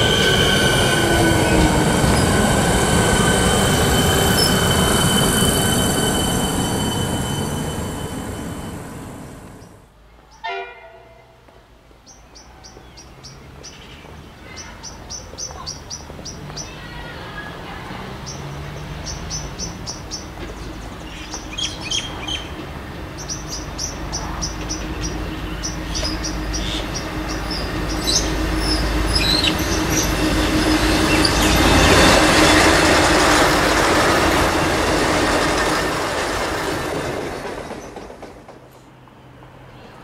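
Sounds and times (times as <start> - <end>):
birds chirping: 0.0 - 10.4, 12.0 - 38.3
low train hum: 0.0 - 40.0
train wheels on rails: 0.0 - 40.0.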